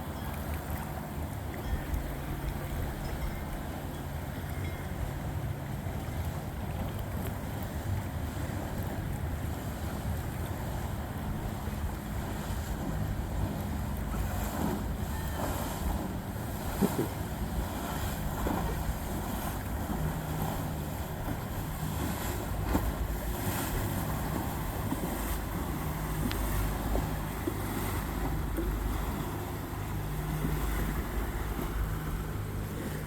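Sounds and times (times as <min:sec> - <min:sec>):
boat engines droning: 0:00.0 - 0:33.0
wind buffeting microphone: 0:00.0 - 0:33.0.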